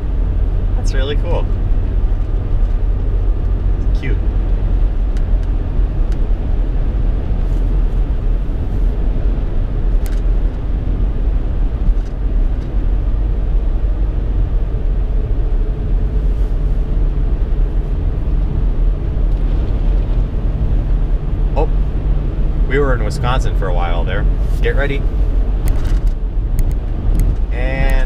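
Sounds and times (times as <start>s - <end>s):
car cabin road rumble: 0.0s - 28.0s.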